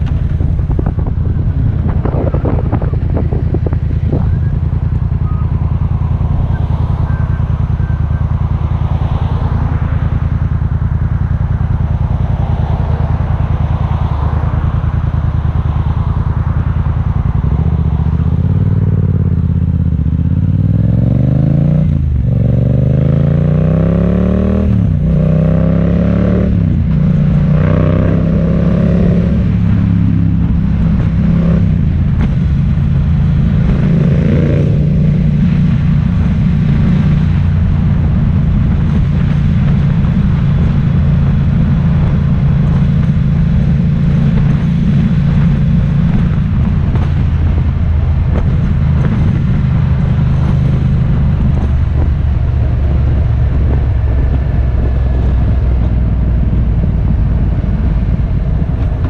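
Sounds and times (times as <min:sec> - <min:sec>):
vehicle engine accelerating: 0:00.0 - 0:59.0.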